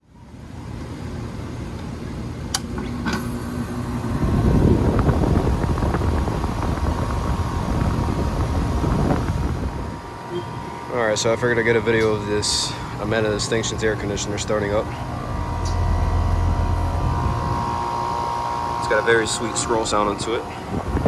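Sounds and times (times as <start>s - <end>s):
air conditioner running: 0.0s - 21.0s.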